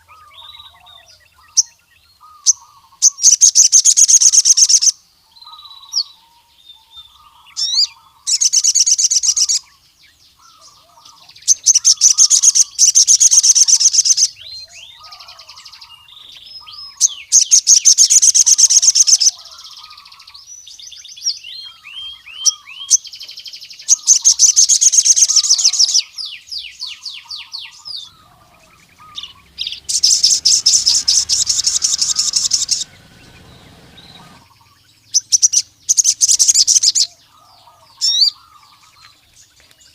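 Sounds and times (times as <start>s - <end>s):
quiet low bird twittering: 0.0s - 39.9s
soft high bird chirps: 0.0s - 39.9s
sunbird singing rapid high trills: 0.0s - 39.9s.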